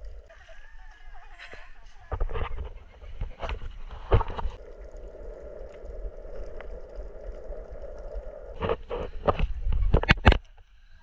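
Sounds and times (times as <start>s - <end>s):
water splashes: 0.0s - 10.6s.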